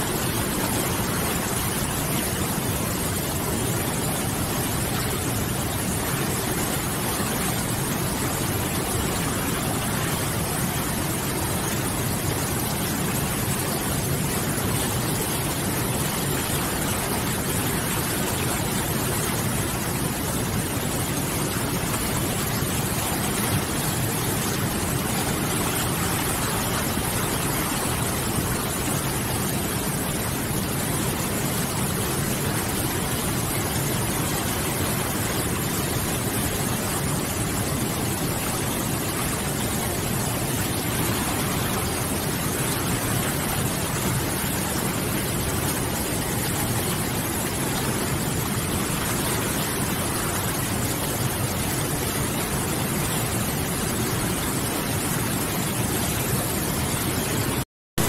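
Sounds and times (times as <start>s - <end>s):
river rapids rushing: 0.0s - 57.6s.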